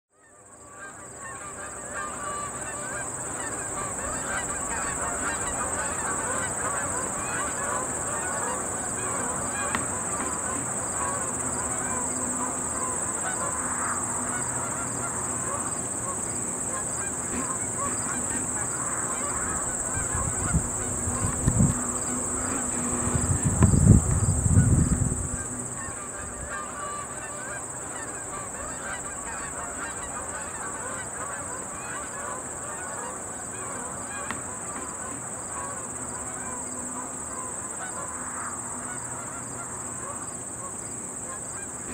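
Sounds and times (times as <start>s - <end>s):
flock of birds honking: 0.2s - 41.9s
steady high whine: 1.6s - 41.9s.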